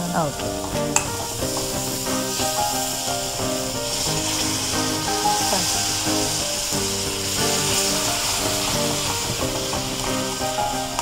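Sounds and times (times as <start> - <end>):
background music: 0.0 - 11.0
onions sizzling in hot oil: 0.0 - 11.0
spatula scraping pan: 0.3 - 11.0.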